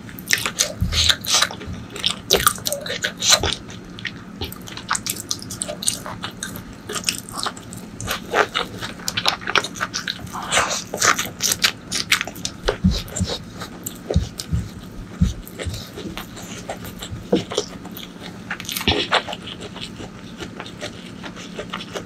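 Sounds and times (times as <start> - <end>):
wet chewing and lip smacks: 0.1 - 22.0.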